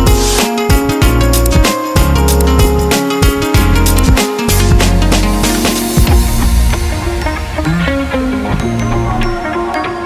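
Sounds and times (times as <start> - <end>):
music with heavy bass beat: 0.0 - 9.7.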